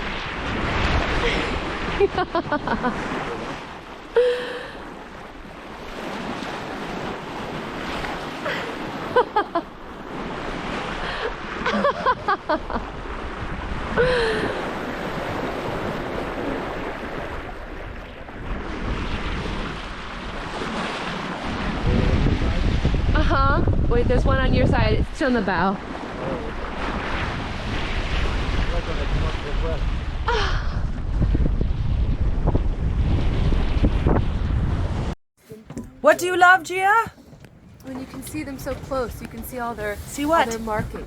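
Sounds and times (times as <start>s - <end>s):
water rushing along hull: 0.0s - 31.3s, 33.2s - 41.0s
wind buffeting microphone: 0.0s - 41.0s.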